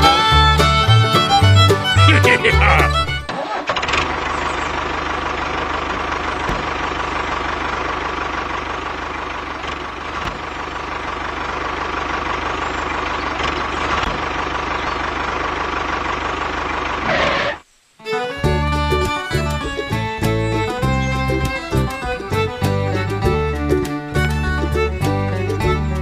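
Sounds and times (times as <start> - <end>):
tractor engine chugging: 0.0 - 17.6, 18.4 - 26.0.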